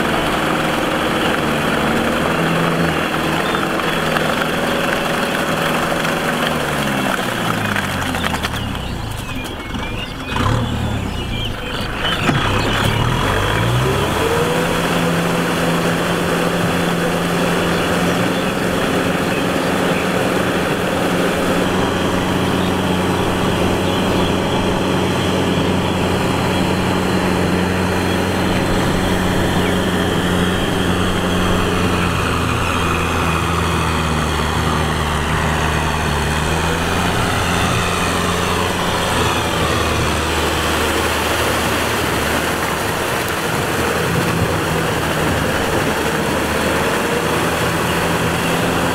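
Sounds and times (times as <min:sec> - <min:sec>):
diesel tractor engine running: 0:00.0 - 0:48.9
rotavator churning mud: 0:00.0 - 0:48.9.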